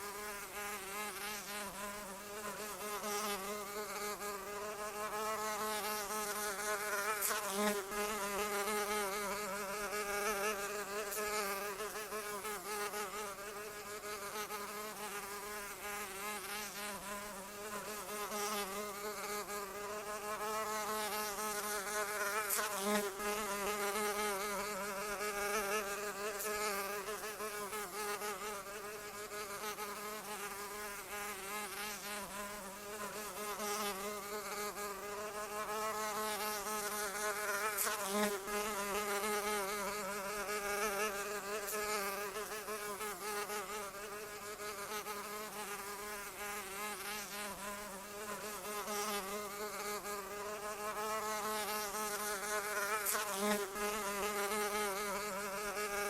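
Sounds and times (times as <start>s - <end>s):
flying insect wings buzzing: 0.0s - 56.0s.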